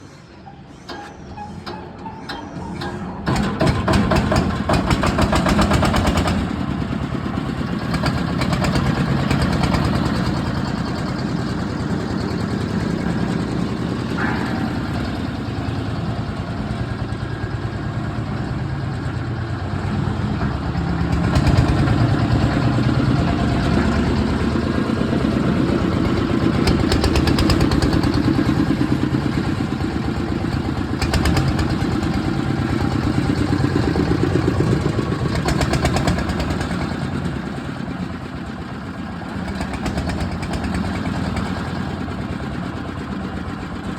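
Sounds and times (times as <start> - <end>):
clatter: 2.2 - 17.1, 20.4 - 43.8
concrete mixer engine running: 3.1 - 43.9.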